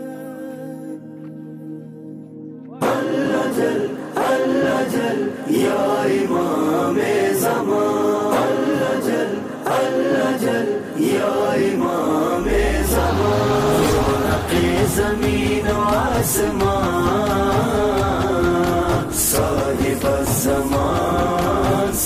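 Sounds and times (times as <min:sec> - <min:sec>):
voices chanting in chorus: 0:02.8 - 0:22.0.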